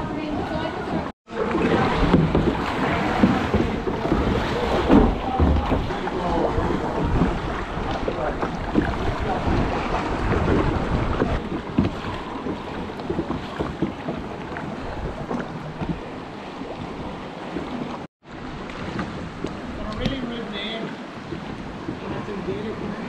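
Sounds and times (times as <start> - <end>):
water sloshing and splashing: 0.0 - 23.0
wind buffeting microphone: 0.0 - 23.0.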